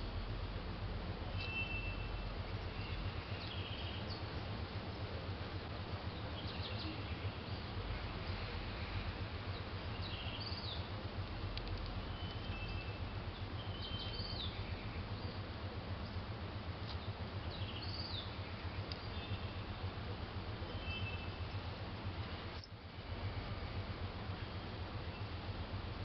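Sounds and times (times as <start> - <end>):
low background rumble: 0.0 - 26.0
small birds chirping: 1.3 - 26.0.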